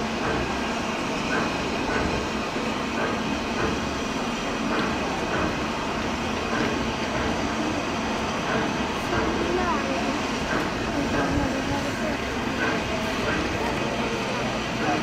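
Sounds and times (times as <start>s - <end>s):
faint regular locomotive beats: 0.0s - 15.0s
steam locomotive rumble and hiss: 0.0s - 15.0s.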